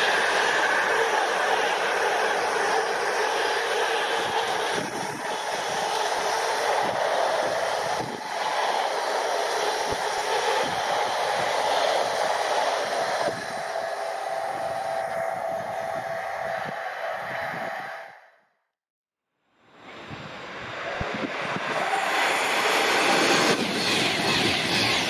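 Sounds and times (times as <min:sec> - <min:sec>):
train wheels rushing on rails: 0:00.0 - 0:18.2, 0:19.9 - 0:25.0.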